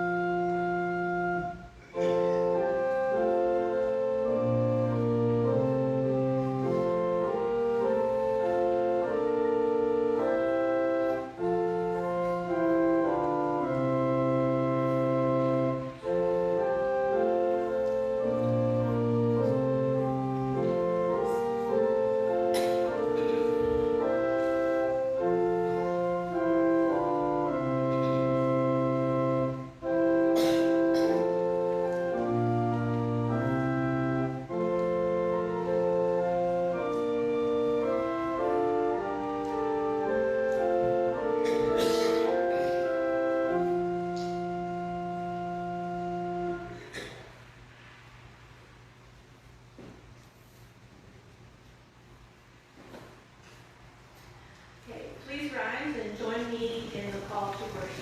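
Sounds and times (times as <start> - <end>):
organ playing slow chords: 0.0 - 47.7.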